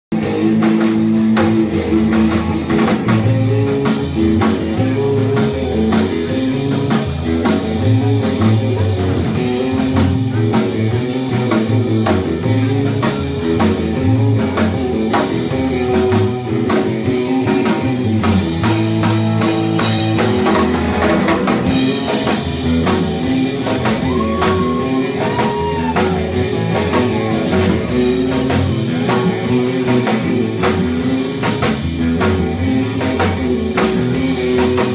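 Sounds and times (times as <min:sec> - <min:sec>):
drum kit beat: 0:00.1 - 0:34.9
electric guitars: 0:00.1 - 0:34.9.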